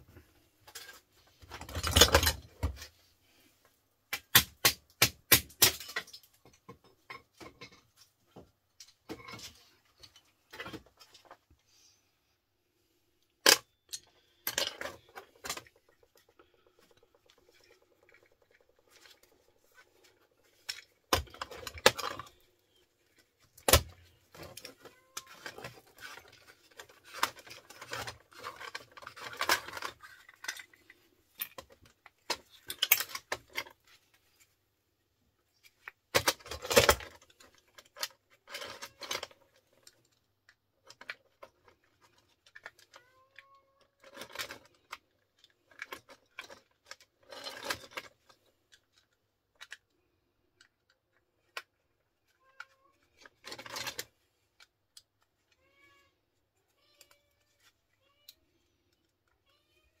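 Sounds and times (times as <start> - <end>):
small parts clinking and rattling: 0.6 - 2.9, 5.3 - 11.5, 13.3 - 34.6, 35.5 - 56.0.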